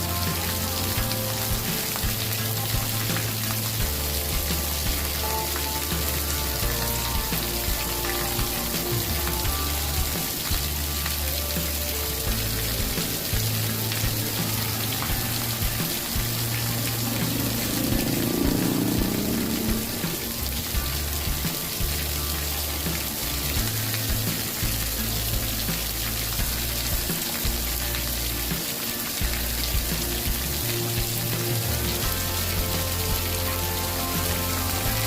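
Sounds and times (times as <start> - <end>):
campfire crackling: 0.0 - 35.0
low held notes: 0.0 - 35.0.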